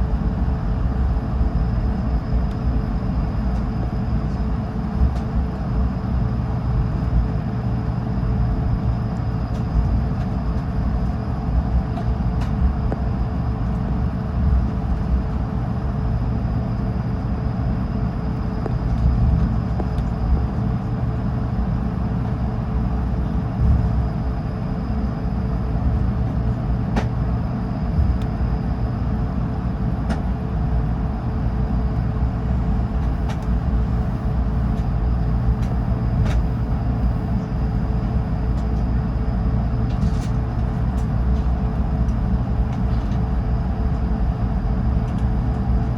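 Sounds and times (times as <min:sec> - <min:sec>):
low rumble of taxiing aircraft: 0:00.0 - 0:45.9.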